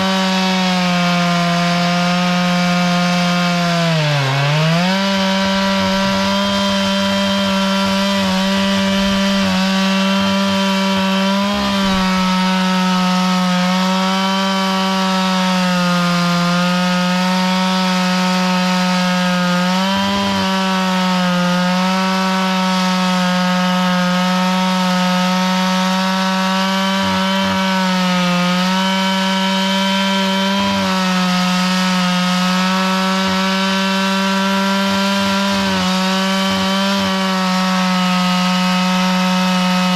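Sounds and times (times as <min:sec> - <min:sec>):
saw engine cutting wood: 0:00.0 - 0:39.9.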